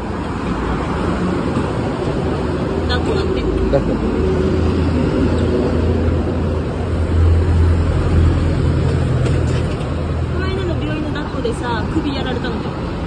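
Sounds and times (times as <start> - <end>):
traffic engine hum: 0.0 - 13.0.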